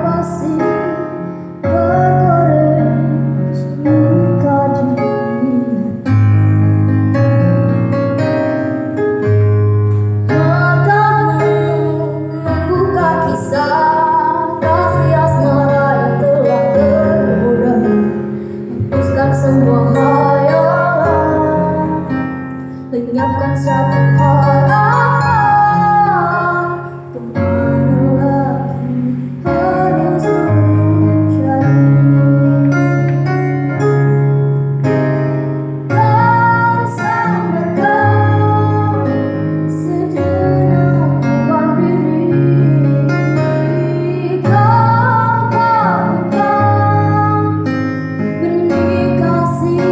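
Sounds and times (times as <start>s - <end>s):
keyboard song: 0.0s - 49.9s.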